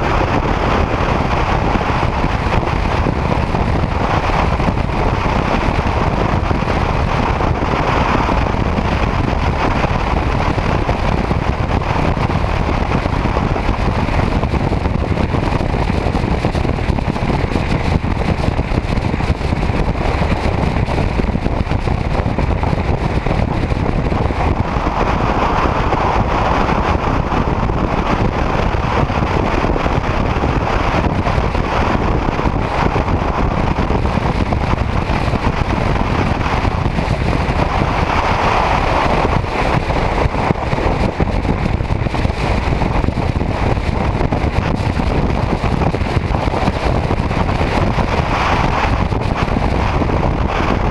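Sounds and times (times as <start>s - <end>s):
wind and road noise: 0.0s - 50.9s.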